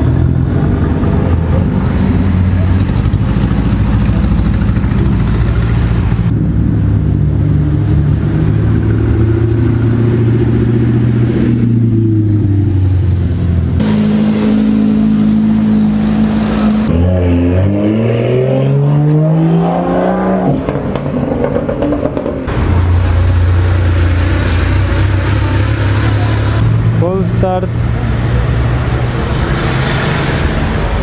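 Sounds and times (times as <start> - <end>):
car engines running: 0.0 - 18.0, 18.6 - 31.0
car accelerating: 0.0 - 31.0.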